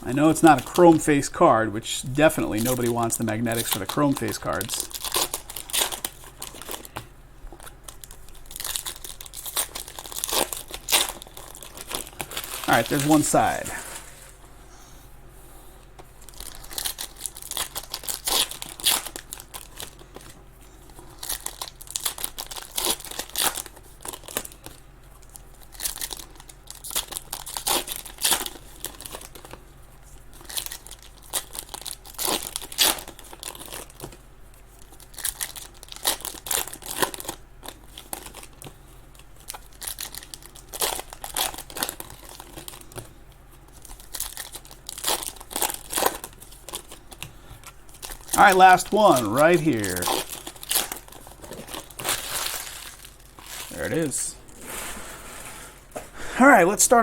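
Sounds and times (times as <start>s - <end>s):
wrappers tearing and crinkling: 0.1s - 1.2s, 2.1s - 7.0s, 7.6s - 14.4s, 16.2s - 20.3s, 20.9s - 55.0s.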